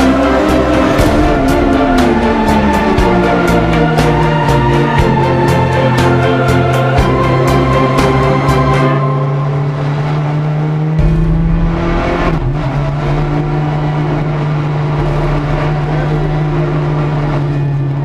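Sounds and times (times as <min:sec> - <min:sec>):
car engine running hard: 0:00.0 - 0:18.0.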